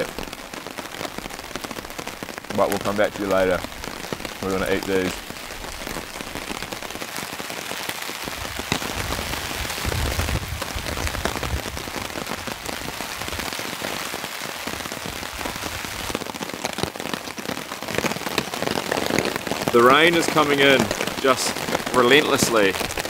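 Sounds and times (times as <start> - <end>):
heavy rain on a tarp: 0.0 - 23.0.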